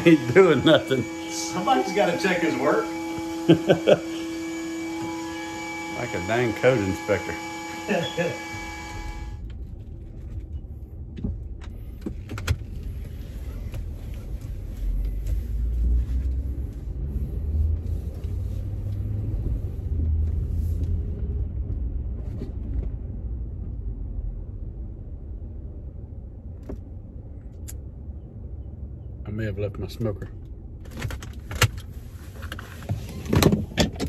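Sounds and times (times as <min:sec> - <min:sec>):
truck engine and road rumble: 0:00.0 - 0:34.0.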